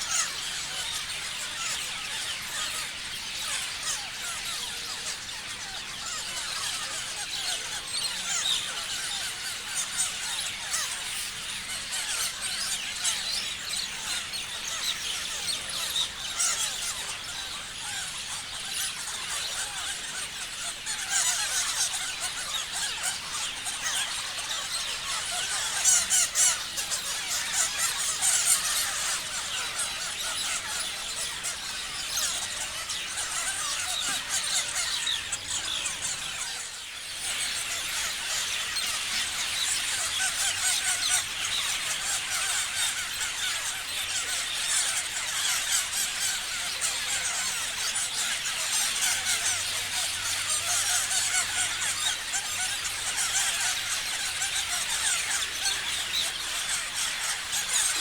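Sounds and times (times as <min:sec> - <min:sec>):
parrots chirping and screeching: 0:00.0 - 0:58.0.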